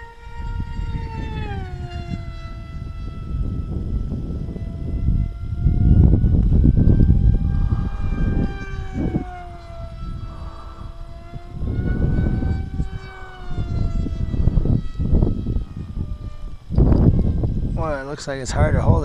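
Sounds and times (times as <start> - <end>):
model plane motor whining overhead: 0.0 - 19.0
wind rumbling on microphone: 0.0 - 19.0.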